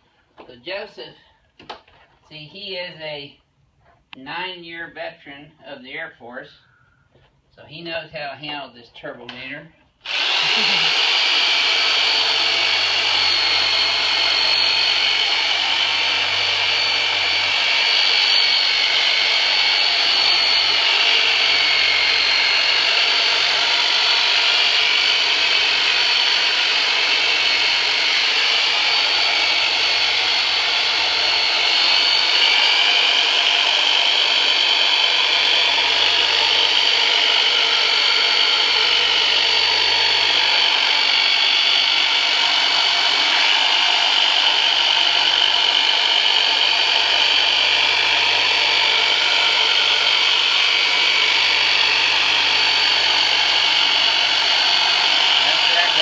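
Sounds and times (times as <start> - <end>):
massager motor whirring: 10.0 - 56.0.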